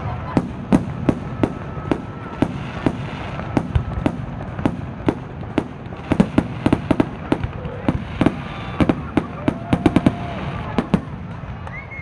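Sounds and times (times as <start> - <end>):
fireworks banging: 0.0 - 12.0
fireworks crackling: 0.0 - 12.0.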